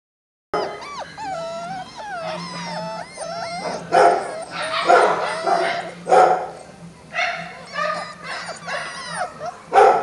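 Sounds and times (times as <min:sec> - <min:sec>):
puppy yips: 0:00.6 - 0:06.6, 0:07.2 - 0:10.0
puppies whining and whimpering: 0:00.6 - 0:10.0.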